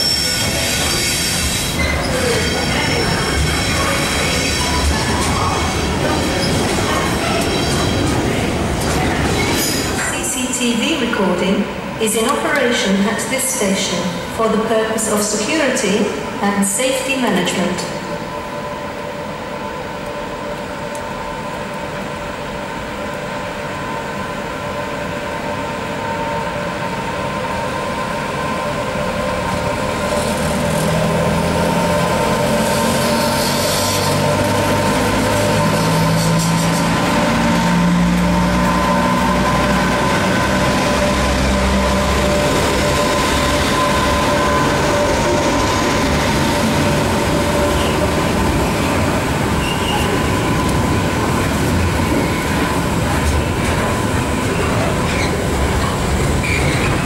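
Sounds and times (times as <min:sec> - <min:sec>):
electric locomotive motors humming: 0:00.0 - 0:57.0.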